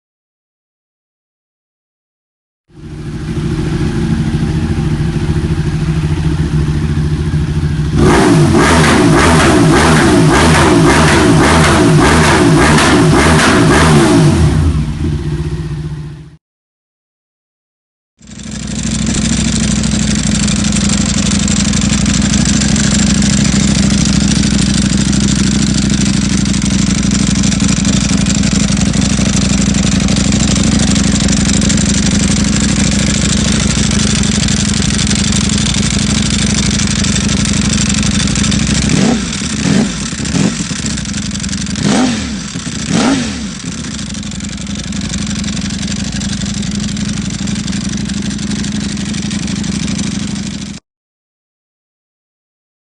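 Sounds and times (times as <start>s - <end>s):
motorcycle engine idling: 2.7s - 16.4s, 18.2s - 50.8s
motorcycle throttle blips: 2.8s - 16.3s, 18.3s - 50.8s.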